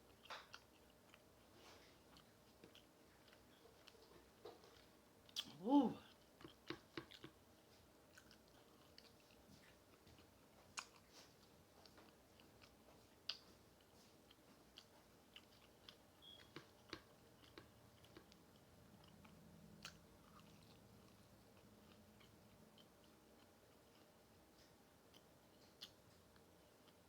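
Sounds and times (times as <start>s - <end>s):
faint chewing crunches: 0.0s - 27.0s.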